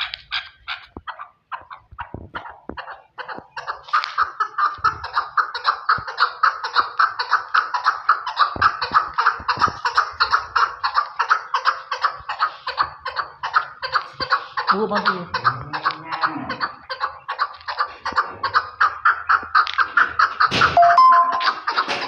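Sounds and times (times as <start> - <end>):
partridge calling: 0.0 - 21.8.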